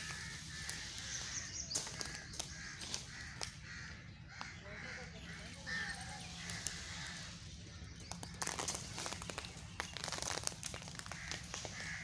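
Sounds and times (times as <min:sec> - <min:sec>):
dry crackling and crunching: 0:00.0 - 0:12.0.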